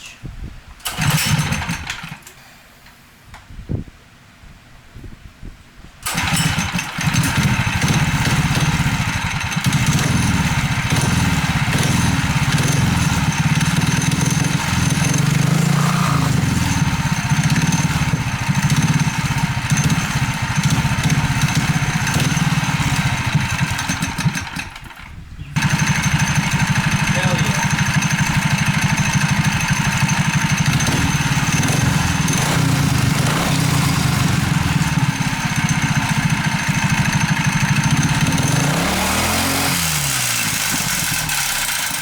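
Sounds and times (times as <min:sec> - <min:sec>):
small engine running loud: 0:00.9 - 0:02.2, 0:06.0 - 0:42.0.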